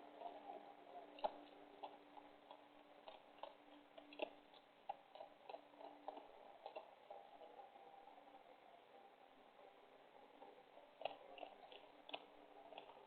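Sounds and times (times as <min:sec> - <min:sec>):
animals chewing food: 0:00.0 - 0:13.0
faint steady hum: 0:00.0 - 0:13.0.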